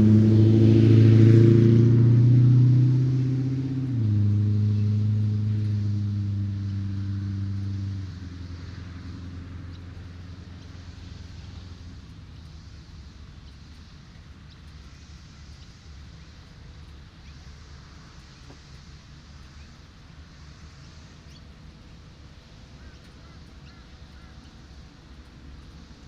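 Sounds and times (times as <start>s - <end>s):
faint surf hiss: 0.0s - 26.0s
vehicle engine hum: 0.0s - 26.0s.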